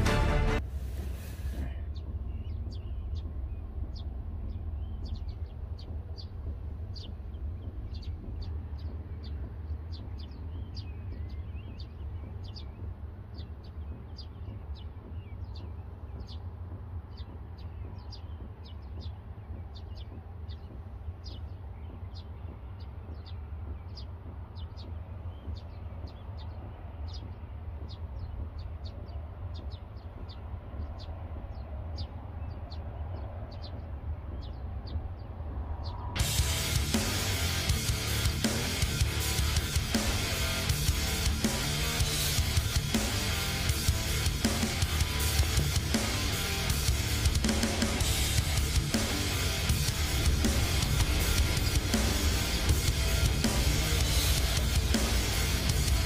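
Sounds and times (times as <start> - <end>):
steady low rumble: 0.0 - 56.0
small bird chirping: 1.3 - 56.0.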